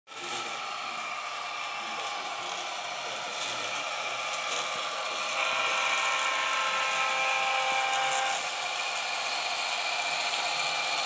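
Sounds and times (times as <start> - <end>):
model train motors whining: 0.1 - 11.0
wheels running on rails: 0.1 - 11.0.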